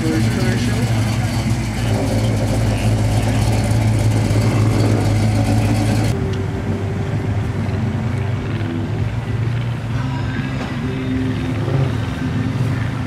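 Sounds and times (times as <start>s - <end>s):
car engine low rumble: 0.0s - 13.0s
engine hum with faint whine: 0.0s - 13.0s.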